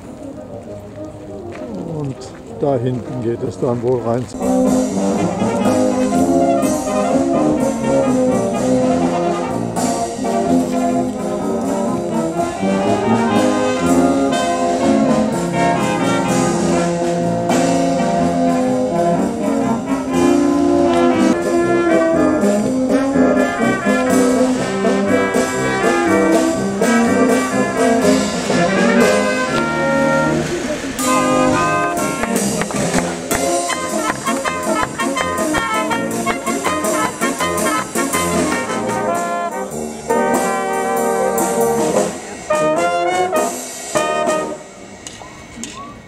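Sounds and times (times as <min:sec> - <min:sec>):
brass band playing: 0:04.0 - 0:45.0.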